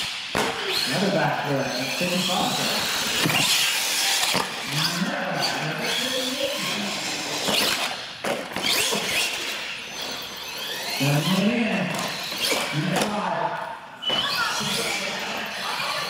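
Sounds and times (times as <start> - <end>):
toy truck motor whining: 0.6 - 12.8, 14.1 - 16.0.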